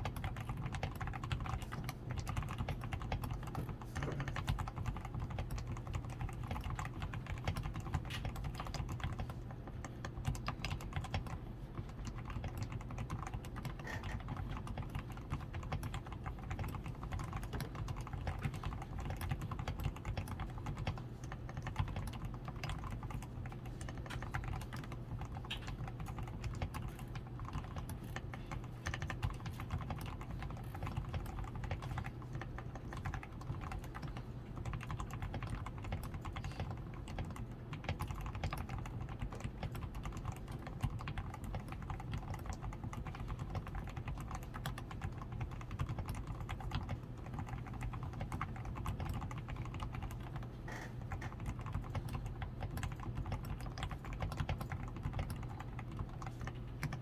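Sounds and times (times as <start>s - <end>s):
typing on mechanical keyboard: 0.0s - 57.0s.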